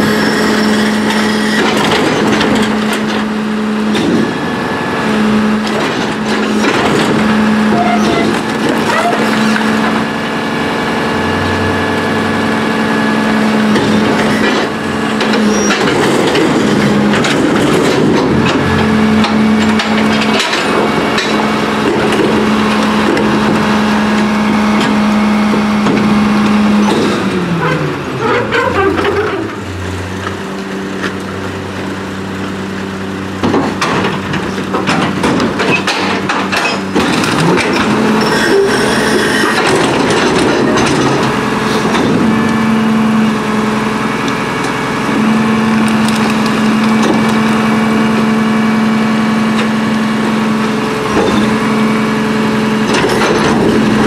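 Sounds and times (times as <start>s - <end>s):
garbage truck diesel engine revving: 0.0s - 54.0s.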